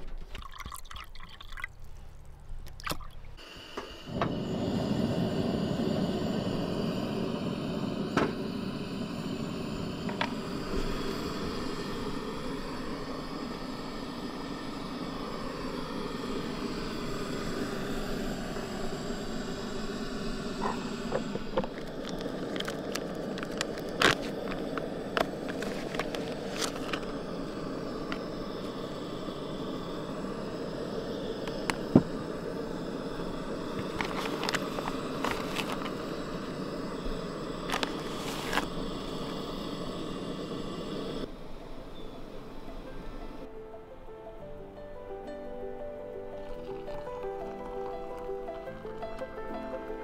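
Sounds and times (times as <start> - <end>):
gas burner rushing: 3.4 - 43.5.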